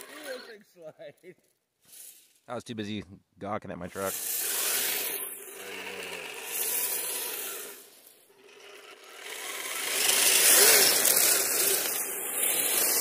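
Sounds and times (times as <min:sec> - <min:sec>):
toy snow vehicle motor and tracks: 0:00.0 - 0:02.4, 0:03.8 - 0:13.0.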